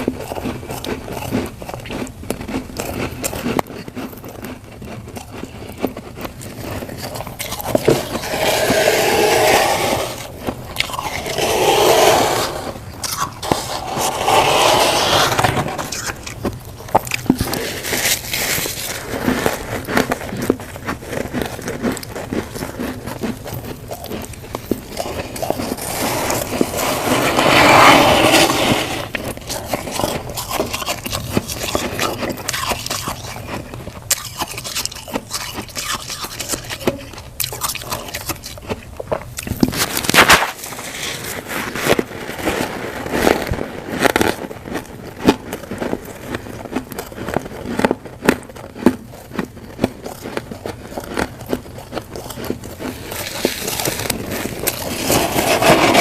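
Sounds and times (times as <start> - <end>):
frost being chewed crunching: 0.0 - 56.0.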